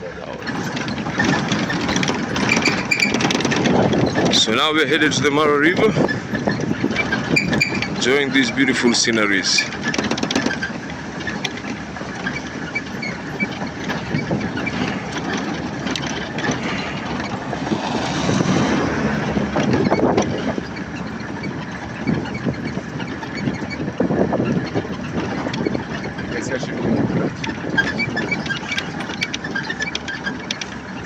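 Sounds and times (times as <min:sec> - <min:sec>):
vehicle engine and road noise: 0:00.0 - 0:31.0
knocks and rattles: 0:00.2 - 0:31.0.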